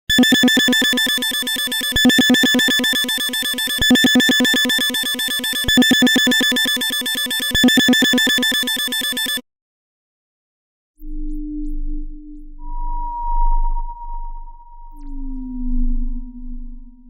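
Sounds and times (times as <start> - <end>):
electronic alarm tone pulsing: 0.1 - 9.4, 11.0 - 17.0.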